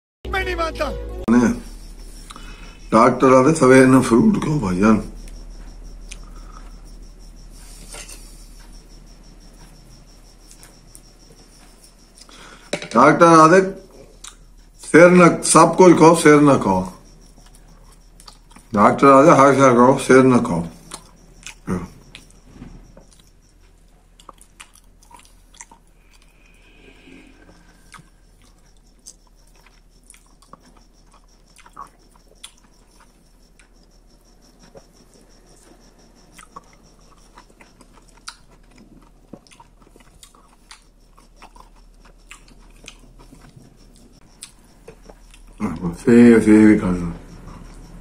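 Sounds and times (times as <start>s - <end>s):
man chewing: 1.6s - 3.0s, 4.0s - 12.8s, 13.8s - 14.9s, 16.8s - 18.8s, 20.7s - 45.9s, 47.2s - 48.0s.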